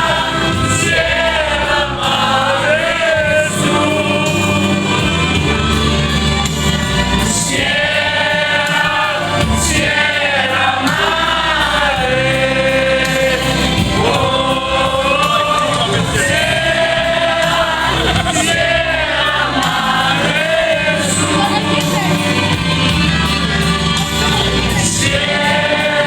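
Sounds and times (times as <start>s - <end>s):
group singing with music: 0.0s - 26.0s.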